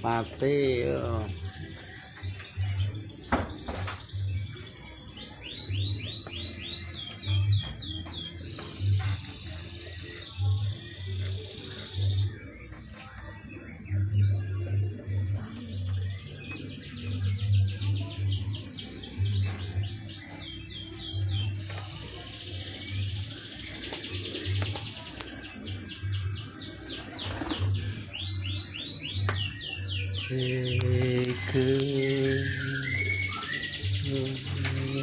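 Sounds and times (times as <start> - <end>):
rapid high-pitched bird trills: 0.0 - 35.0
small birds chirping: 0.0 - 35.0.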